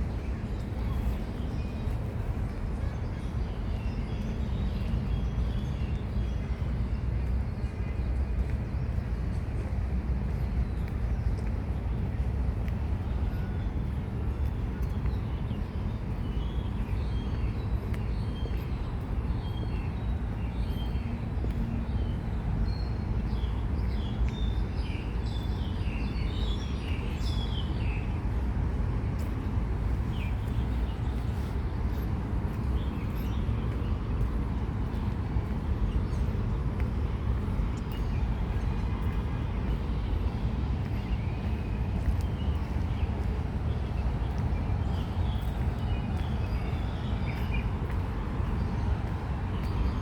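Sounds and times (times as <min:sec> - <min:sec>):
low rumble of traffic: 0:00.0 - 0:50.0.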